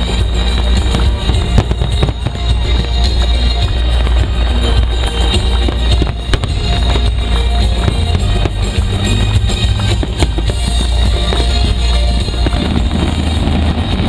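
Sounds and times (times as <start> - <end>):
fireworks bursting and crackling: 0.0 - 14.0
loud music with heavy bass beat: 0.0 - 14.0.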